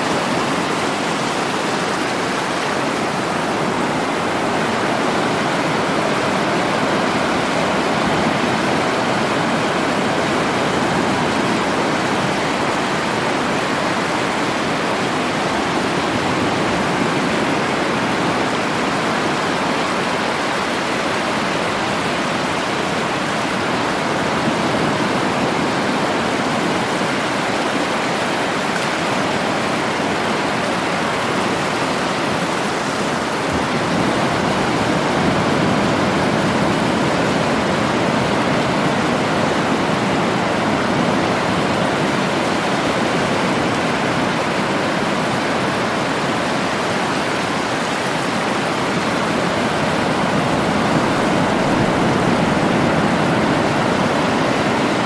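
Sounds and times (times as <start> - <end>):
ocean surf breaking waves: 0.0 - 55.0.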